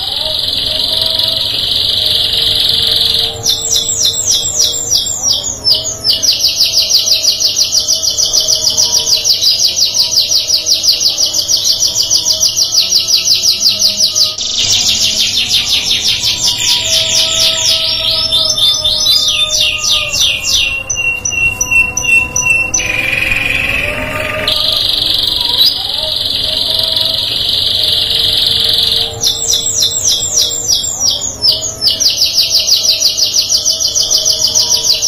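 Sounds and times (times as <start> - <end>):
canary singing trills: 0.0 - 35.0.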